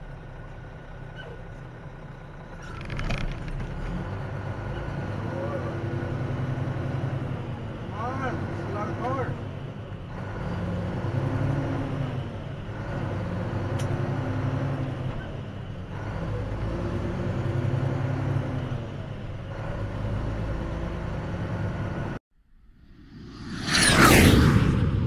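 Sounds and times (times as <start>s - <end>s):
diesel truck engine shifting gears: 0.0s - 22.2s.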